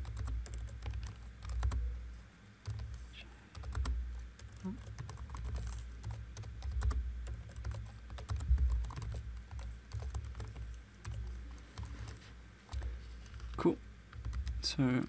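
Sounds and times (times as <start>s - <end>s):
keyboard typing clicks: 0.0s - 1.8s, 2.6s - 3.0s, 3.6s - 14.6s.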